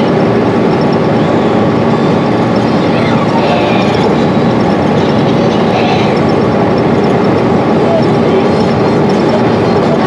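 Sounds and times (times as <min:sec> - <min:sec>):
bus diesel engine running: 0:00.0 - 0:10.0
road and tyre noise: 0:00.0 - 0:10.0.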